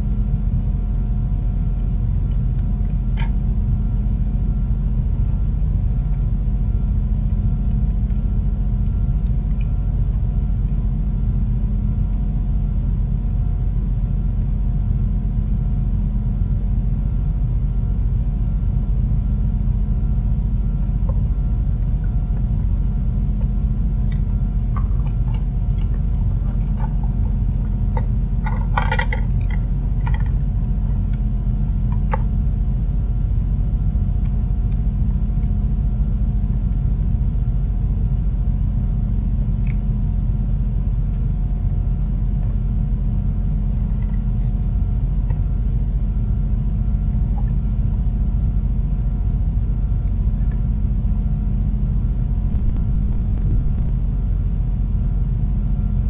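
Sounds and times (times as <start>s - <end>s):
machine hum and rumble: 0.0s - 56.0s.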